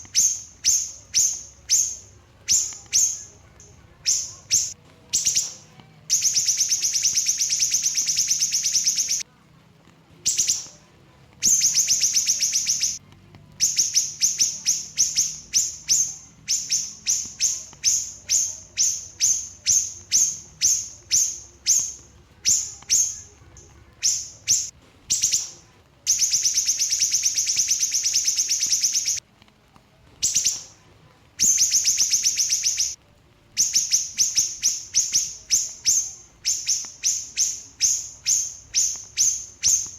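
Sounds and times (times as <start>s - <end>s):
bird singing buzzy trills: 0.0s - 9.2s, 10.2s - 13.0s, 13.6s - 29.2s, 31.4s - 33.0s, 33.6s - 39.9s.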